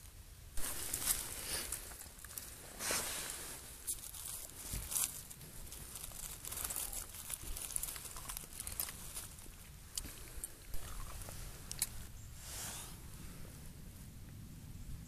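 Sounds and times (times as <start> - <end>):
dry leaves and twigs rustling: 0.0 - 14.1.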